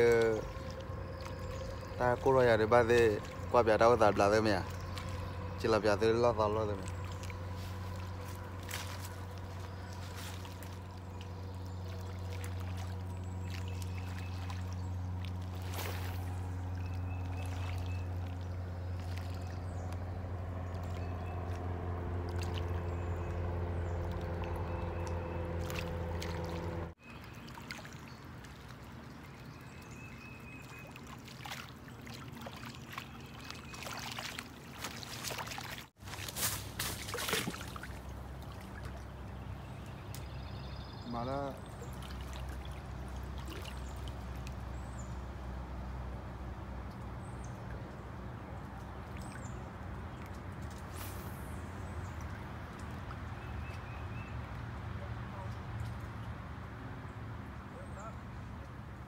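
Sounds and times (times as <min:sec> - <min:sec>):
low engine drone: 0:00.0 - 0:27.4, 0:28.0 - 0:57.9
small waves lapping at shore: 0:00.0 - 0:58.1.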